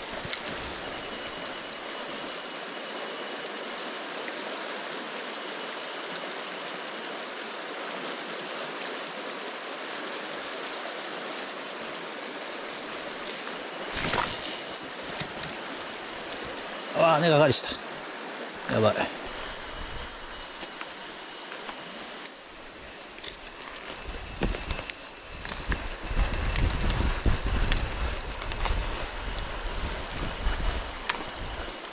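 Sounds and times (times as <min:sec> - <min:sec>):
river water flowing: 0:00.0 - 0:31.9.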